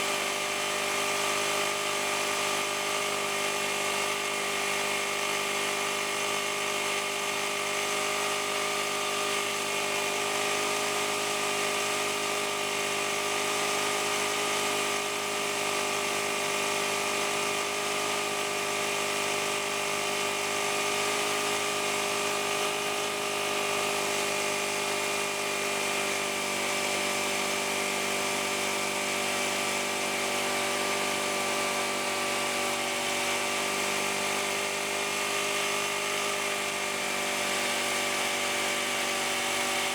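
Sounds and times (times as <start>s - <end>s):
generator humming and whining: 0.0s - 39.9s.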